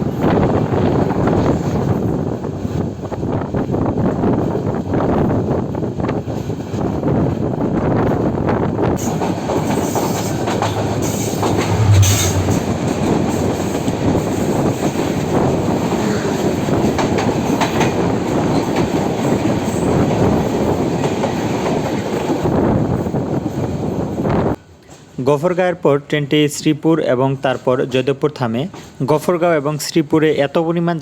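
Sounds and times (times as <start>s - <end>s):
train rumbling on rails: 0.0s - 25.8s, 27.0s - 30.3s.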